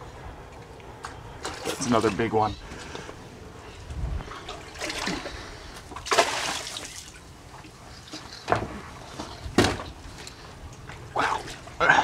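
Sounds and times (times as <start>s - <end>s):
water splashing and sloshing: 1.0s - 3.1s, 3.7s - 12.0s.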